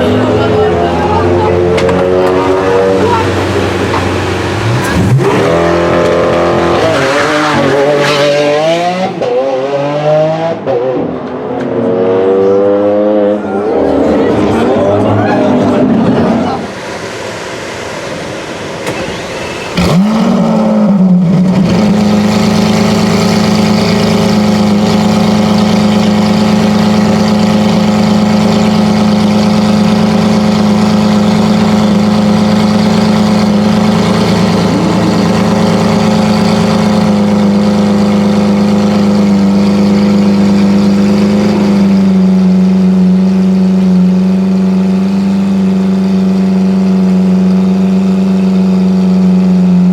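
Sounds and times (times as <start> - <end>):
car engine starting and idling: 0.0 - 49.9.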